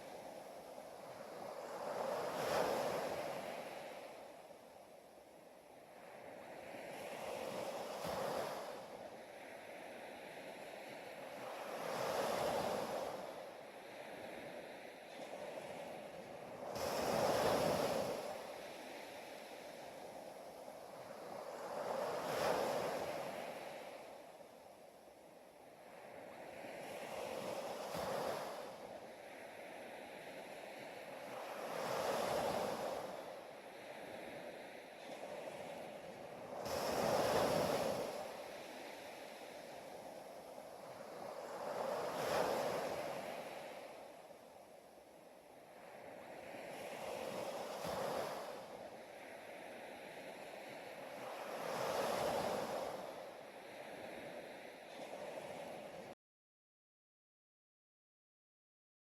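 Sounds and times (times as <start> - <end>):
ocean waves washing in: 0.0 - 56.2
rushing surf-like water: 0.0 - 56.2.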